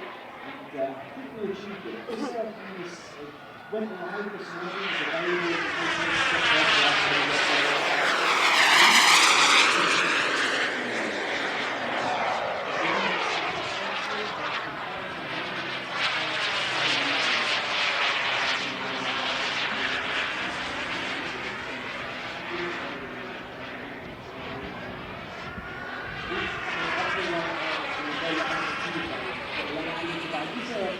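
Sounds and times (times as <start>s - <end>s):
model jet turbine whine: 0.0s - 30.9s.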